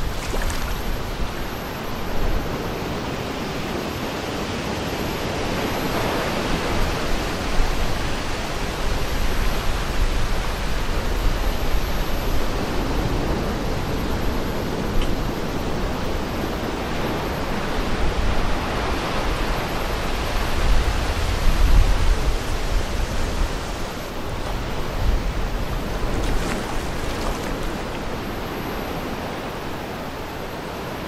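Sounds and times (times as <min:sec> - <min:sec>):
wind gusting over microphone: 0:00.0 - 0:31.0.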